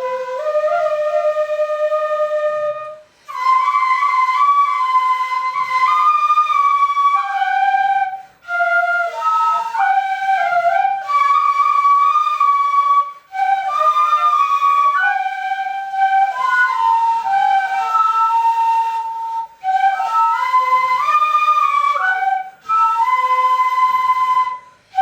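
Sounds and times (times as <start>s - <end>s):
bamboo flutes playing a melody: 0.0s - 25.0s.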